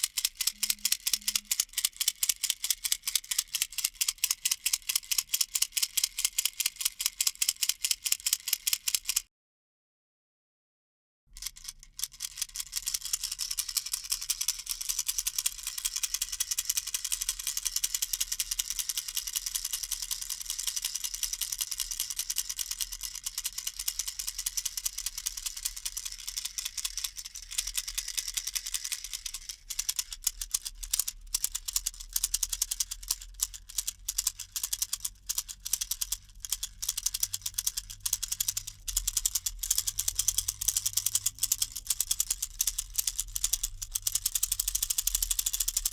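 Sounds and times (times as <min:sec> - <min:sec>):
baby rattle shaking: 0:00.0 - 0:09.2, 0:11.4 - 0:45.9.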